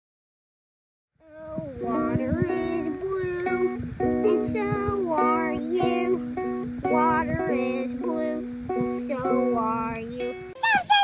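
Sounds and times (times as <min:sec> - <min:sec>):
child singing: 0:01.2 - 0:11.0
ukulele strumming: 0:01.3 - 0:11.0.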